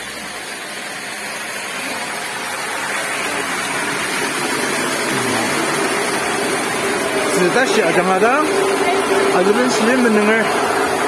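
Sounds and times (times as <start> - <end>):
rushing water: 0.7 - 11.0.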